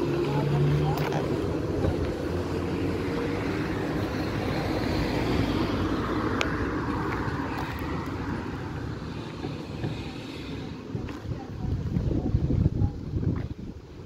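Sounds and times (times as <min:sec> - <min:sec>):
tram running on rails: 0:00.0 - 0:12.0.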